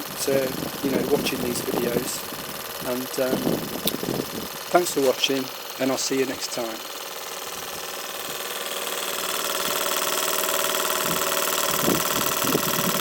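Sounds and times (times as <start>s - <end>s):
model steam engine running: 0.0s - 13.0s.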